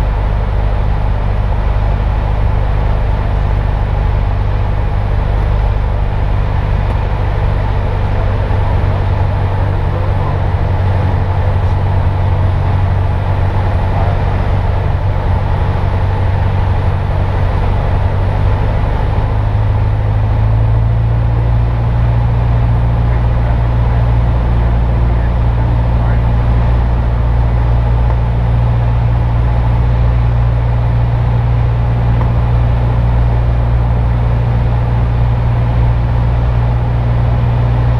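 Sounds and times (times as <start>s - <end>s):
light aircraft engine drone: 0.0s - 37.9s.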